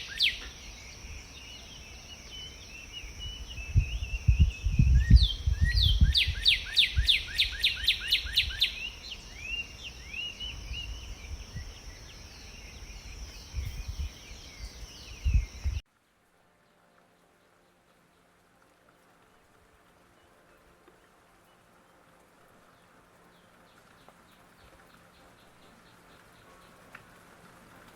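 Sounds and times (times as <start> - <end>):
songbirds singing: 0.0 - 15.8, 20.0 - 27.1.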